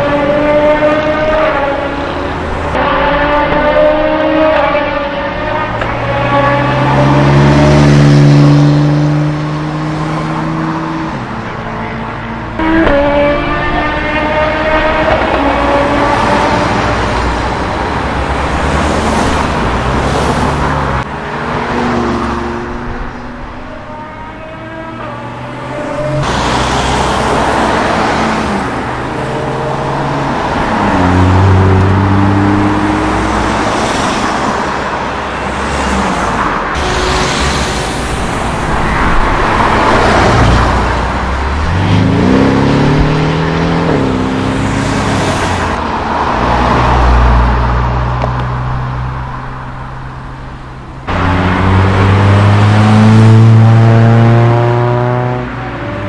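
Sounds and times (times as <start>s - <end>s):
cars accelerating away: 0.0s - 50.2s, 50.8s - 56.0s
tyre and road noise: 0.0s - 56.0s.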